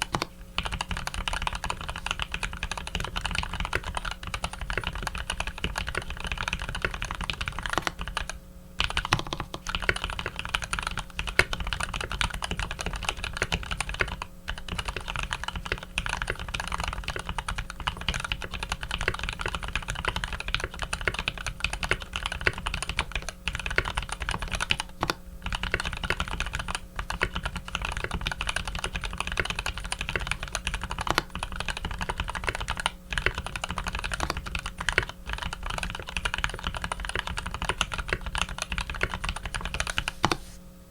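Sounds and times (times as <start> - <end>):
mechanical keyboard typing: 0.0 - 40.4.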